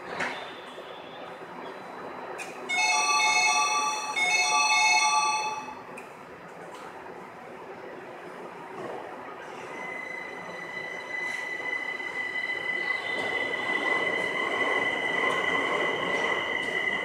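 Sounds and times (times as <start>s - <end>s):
maglev train electric whine: 0.0s - 6.2s, 7.0s - 17.0s.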